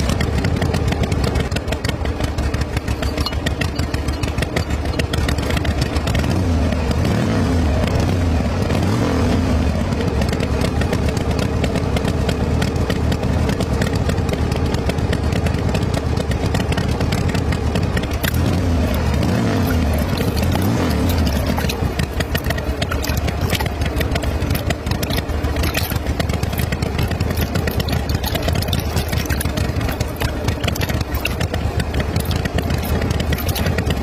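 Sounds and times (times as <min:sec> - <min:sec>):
small engine chugging: 0:00.0 - 0:34.0.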